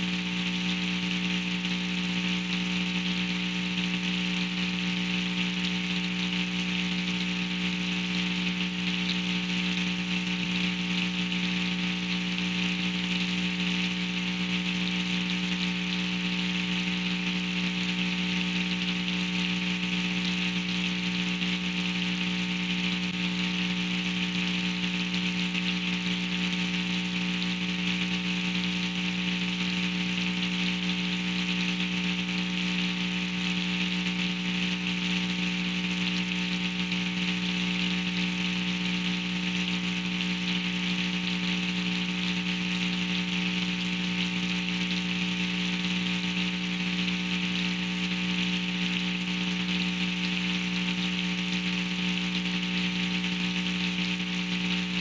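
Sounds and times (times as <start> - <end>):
constant buzzing hum: 0.0 - 55.0
rain hissing: 0.0 - 55.0.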